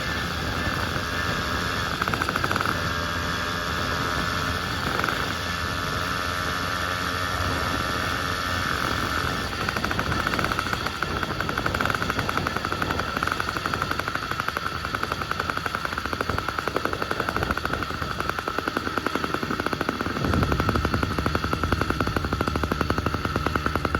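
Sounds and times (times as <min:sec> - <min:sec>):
two-stroke engine exhaust popping: 0:00.0 - 0:23.9.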